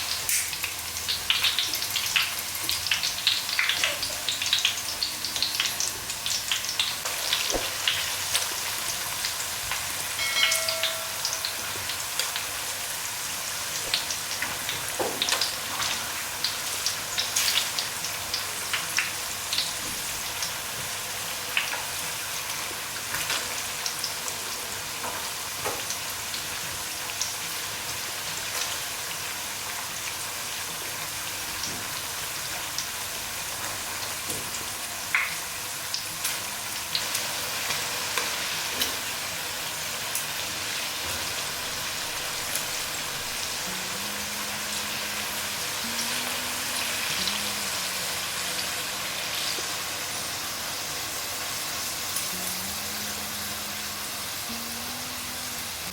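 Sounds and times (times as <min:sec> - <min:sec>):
food sizzling in hot oil: 0:00.0 - 0:55.9.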